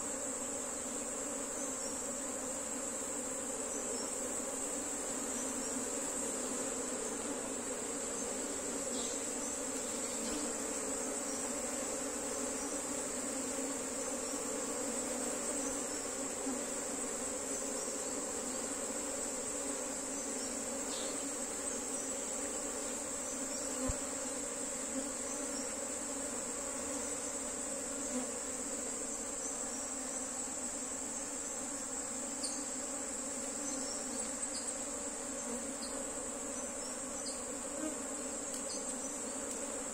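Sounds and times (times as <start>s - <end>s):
honeybees humming: 0.0s - 39.9s.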